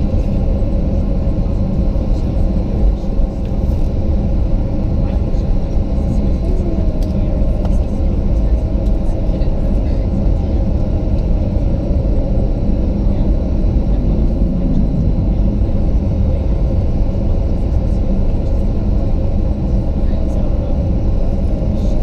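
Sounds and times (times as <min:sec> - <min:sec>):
jet engines low rumble: 0:00.0 - 0:22.0.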